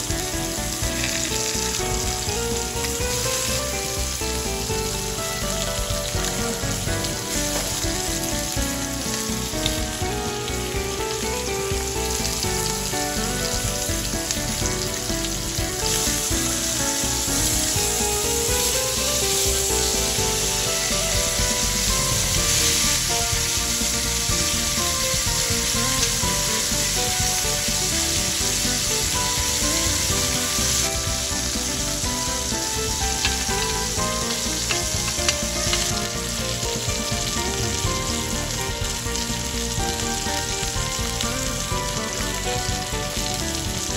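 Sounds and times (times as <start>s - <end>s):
steak sizzling in pan: 0.0s - 43.9s.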